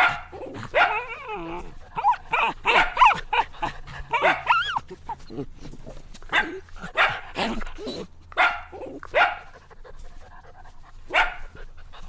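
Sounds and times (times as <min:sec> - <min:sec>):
puppy barking: 0:00.0 - 0:09.7, 0:11.1 - 0:11.5.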